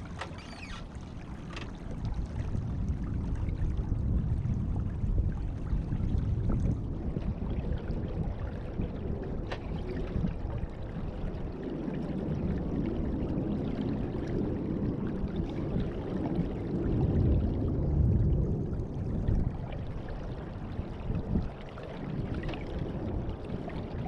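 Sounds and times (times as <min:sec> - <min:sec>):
low rumble: 0:00.0 - 0:24.0
water rushing along a boat hull: 0:00.0 - 0:24.0.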